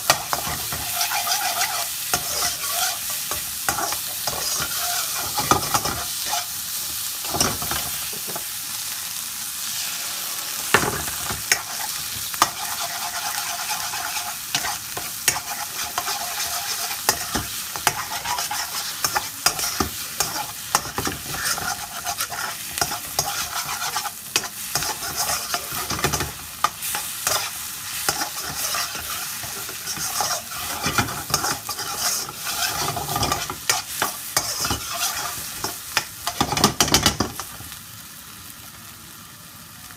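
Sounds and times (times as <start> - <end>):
vegetables sizzling in a wok: 0.0 - 39.9.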